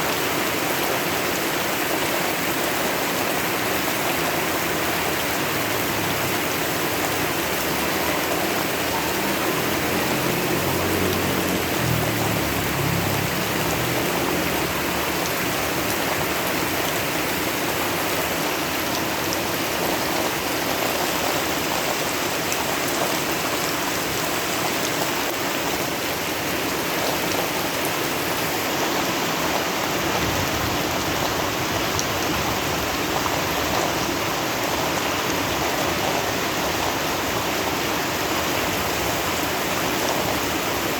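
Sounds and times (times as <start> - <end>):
river water rushing: 0.0 - 40.9
steady rain falling: 0.0 - 40.9.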